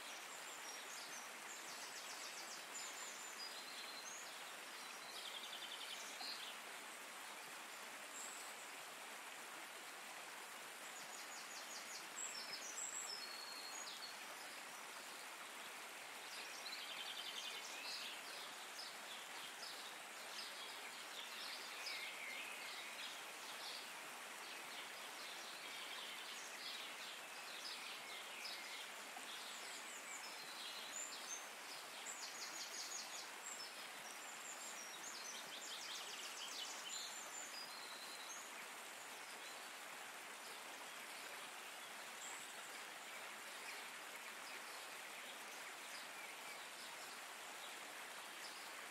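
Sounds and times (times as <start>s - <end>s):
water flowing: 0.0s - 48.9s.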